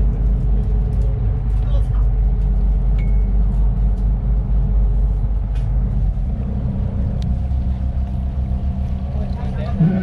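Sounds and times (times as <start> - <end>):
boat engine rumbling: 0.0 - 10.0.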